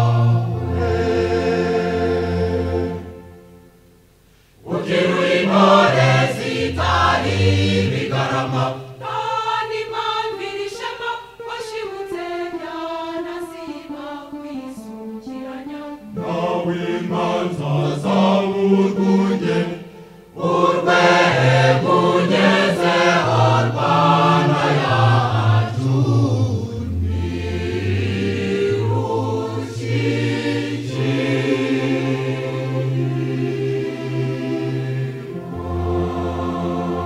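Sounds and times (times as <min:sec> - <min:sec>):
choir singing: 0:00.0 - 0:03.8, 0:04.6 - 0:37.0.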